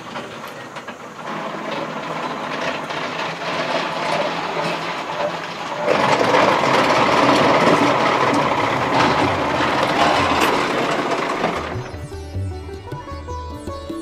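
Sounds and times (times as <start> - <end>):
prayer wheels rumbling and rattling: 0.0 - 14.0.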